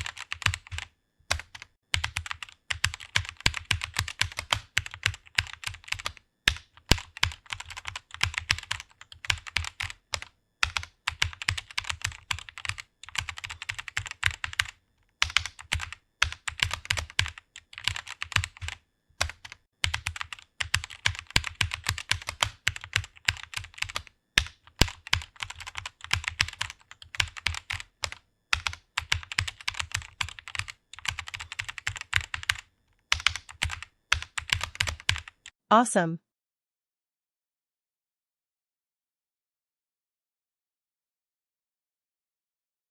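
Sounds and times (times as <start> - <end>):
keyboard typing: 0.0 - 35.6.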